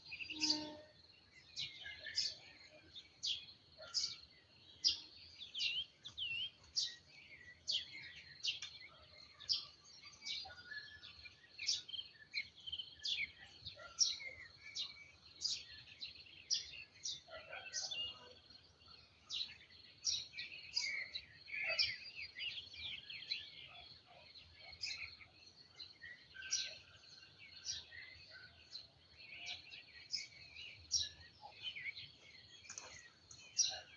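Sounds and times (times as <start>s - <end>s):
songbirds chirping and whistling: 0.0s - 33.9s.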